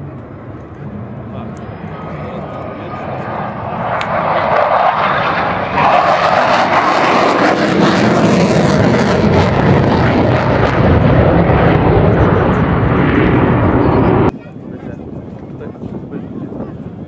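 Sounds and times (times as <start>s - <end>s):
jet aircraft roar: 0.0s - 17.0s.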